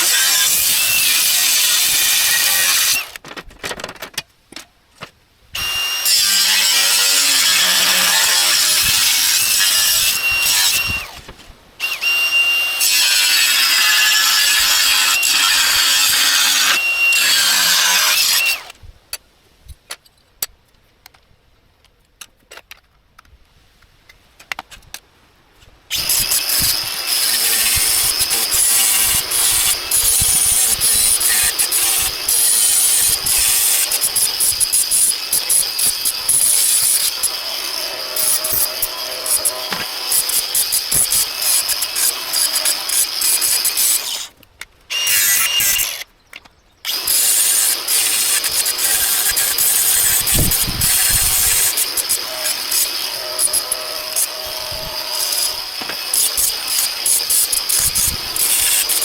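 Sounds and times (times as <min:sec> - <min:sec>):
power tool cutting: 0:00.0 - 0:03.2, 0:05.6 - 0:18.7, 0:25.9 - 0:46.0, 0:46.9 - 0:59.0.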